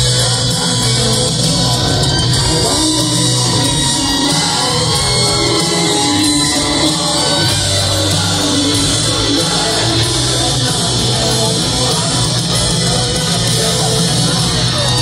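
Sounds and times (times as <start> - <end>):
lead electric guitar: 0.0 - 15.0
live rock music: 0.0 - 15.0.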